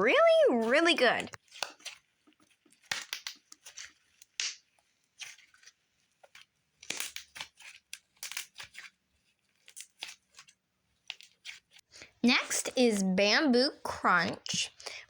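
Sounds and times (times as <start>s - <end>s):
slime popping and crackling: 0.0s - 15.0s.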